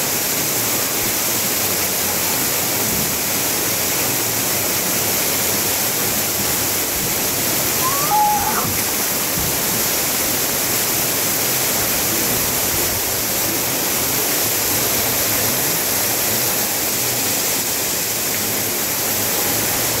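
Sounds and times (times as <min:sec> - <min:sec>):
water jets hissing: 0:00.0 - 0:20.0.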